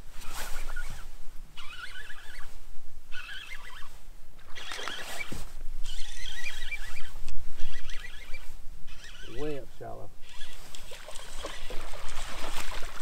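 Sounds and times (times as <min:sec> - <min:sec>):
fishing reel whirring: 0:00.6 - 0:02.5, 0:03.1 - 0:13.0.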